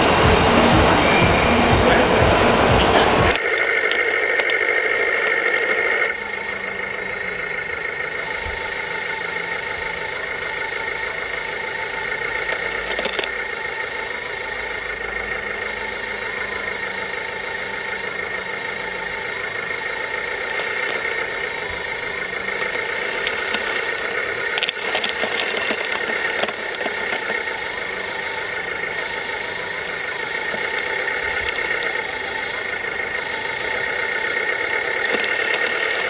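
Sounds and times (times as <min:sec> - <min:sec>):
higher intermittent whine: 0:00.0 - 0:36.0
steady high-pitched motor whine: 0:00.0 - 0:36.0.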